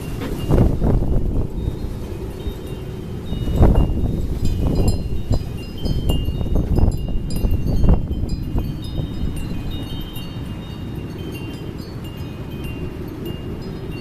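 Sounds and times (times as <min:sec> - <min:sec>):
wind buffeting microphone: 0:00.0 - 0:14.0
wind chimes ringing: 0:00.0 - 0:14.0.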